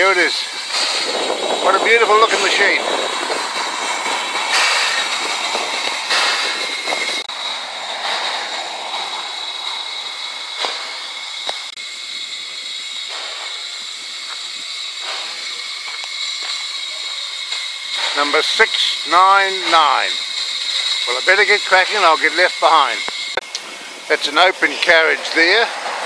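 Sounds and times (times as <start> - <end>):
steam hissing: 0.0 - 26.0.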